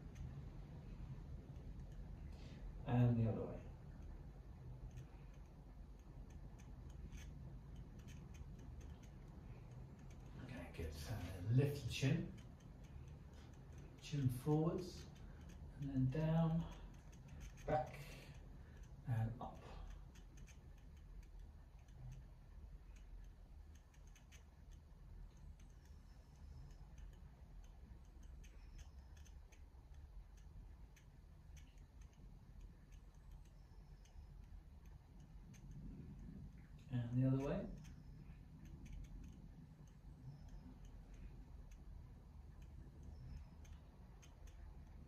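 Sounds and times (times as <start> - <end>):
faint irregular clicks: 0.0 - 45.0
low hum: 0.0 - 45.0.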